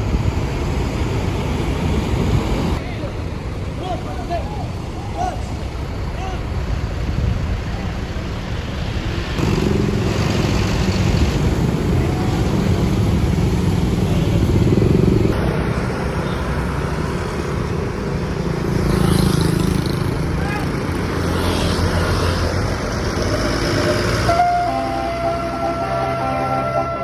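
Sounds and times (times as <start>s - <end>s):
heavy road traffic rumble: 0.0s - 27.0s.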